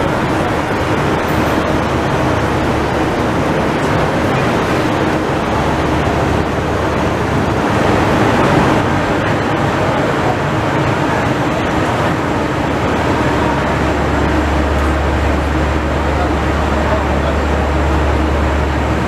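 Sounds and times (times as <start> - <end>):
low hum: 0.0 - 19.0
train wheels rumbling on rails: 0.0 - 19.0.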